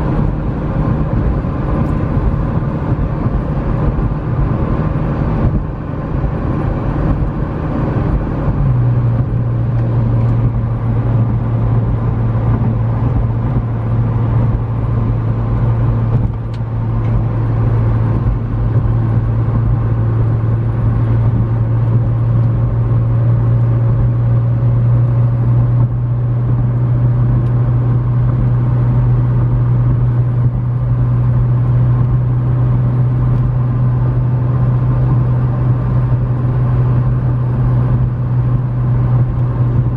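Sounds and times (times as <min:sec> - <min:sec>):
car engine drone: 0:00.0 - 0:39.9
road and wind noise: 0:00.0 - 0:39.9.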